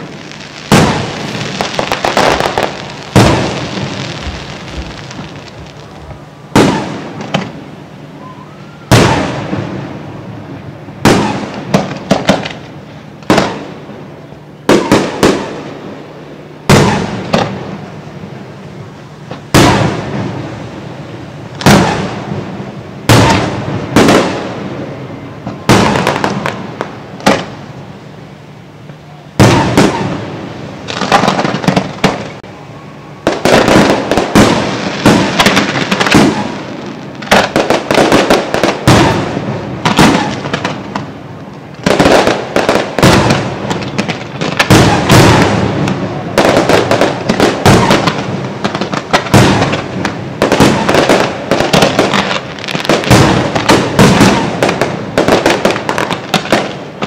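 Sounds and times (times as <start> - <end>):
fireworks bursting with echoing booms: 0.0 - 28.0, 29.2 - 57.0.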